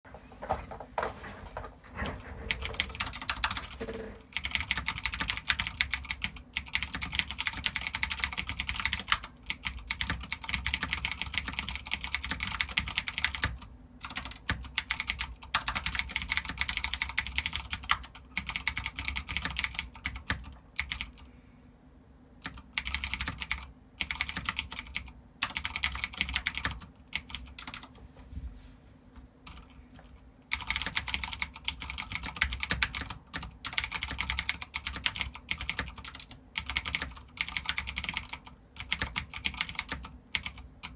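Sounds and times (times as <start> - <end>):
clicky mechanical keyboard typing: 2.4 - 21.2, 22.4 - 28.0, 29.4 - 29.7, 30.5 - 40.9.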